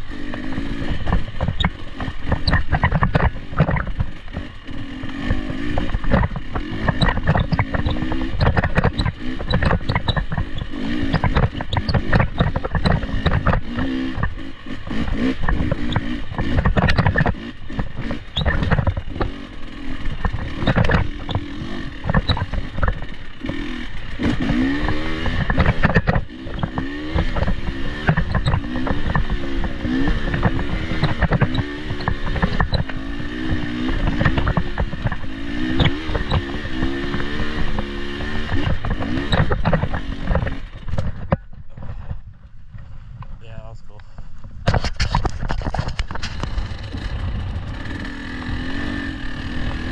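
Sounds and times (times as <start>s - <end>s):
off-road vehicle engine revving: 0.0s - 42.3s, 43.4s - 49.9s
chassis knocks and rattles: 0.3s - 43.4s, 44.5s - 48.6s.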